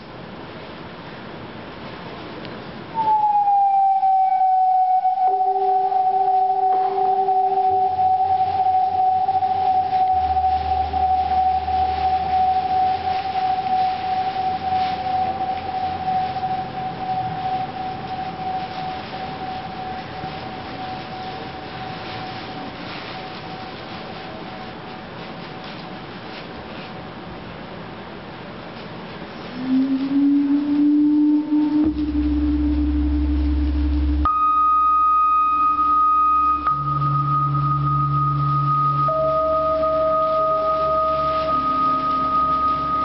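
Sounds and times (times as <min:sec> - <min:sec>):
faint hiss: 0:00.0 - 0:43.0
steady high pure tone: 0:02.1 - 0:27.4, 0:29.2 - 0:43.0
deep hum: 0:02.6 - 0:25.8, 0:29.4 - 0:43.0.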